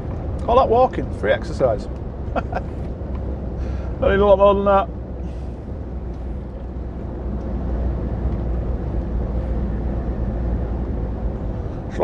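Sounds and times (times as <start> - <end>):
lorry diesel engine rumble: 0.0 - 12.0
tyre and road noise: 0.0 - 12.0.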